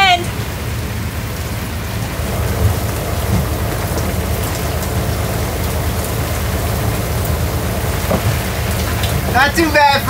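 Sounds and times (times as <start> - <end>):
low rumble: 0.0 - 10.0
rain on a deck hatch: 0.0 - 10.0.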